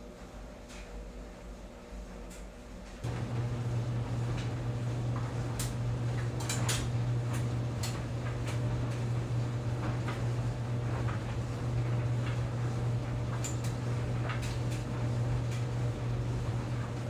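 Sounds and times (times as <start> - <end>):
clothes dryer motor hum: 0.0 - 17.0
items tumbling in dryer drum: 2.9 - 17.0.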